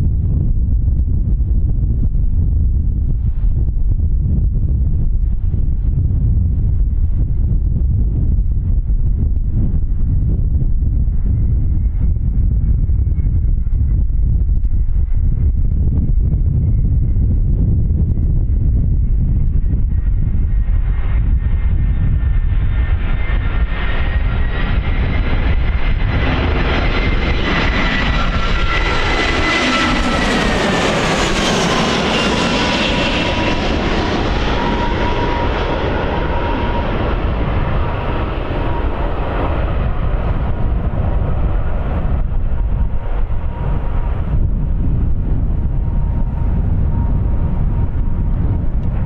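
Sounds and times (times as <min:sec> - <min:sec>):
jet airliner engine whine: 0:00.0 - 0:49.0
wind rumble on microphone: 0:00.0 - 0:49.0.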